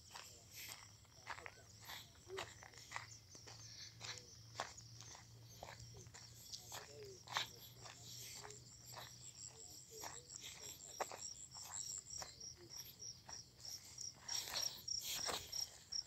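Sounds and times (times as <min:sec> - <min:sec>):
footsteps through dry grass: 0:00.0 - 0:16.0
insects chirping: 0:00.0 - 0:16.0.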